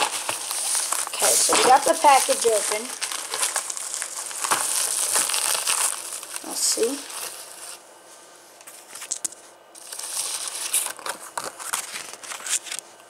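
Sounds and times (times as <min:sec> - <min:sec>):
paper and mailer rustling: 0:00.0 - 0:07.8, 0:08.6 - 0:12.8.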